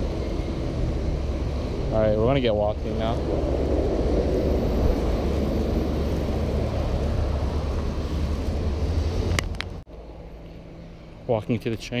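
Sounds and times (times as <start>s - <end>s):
truck passing: 0.0s - 11.2s
traffic driving past: 0.0s - 11.8s.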